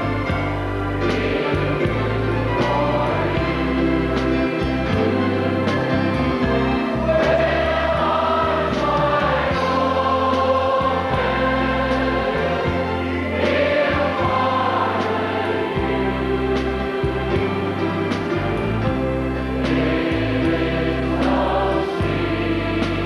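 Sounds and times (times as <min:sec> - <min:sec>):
choir and congregation singing hymn: 0:00.0 - 0:23.0
sustained low instrumental notes: 0:00.0 - 0:23.0.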